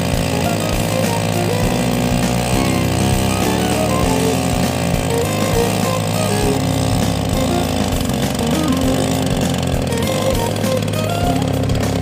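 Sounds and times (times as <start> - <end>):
two-stroke boat engine running: 0.0 - 12.0.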